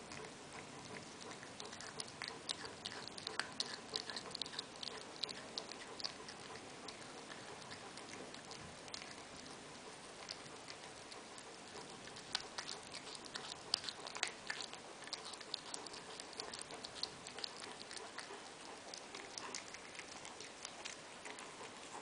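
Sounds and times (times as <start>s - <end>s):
cat chewing and crunching: 0.0s - 22.0s.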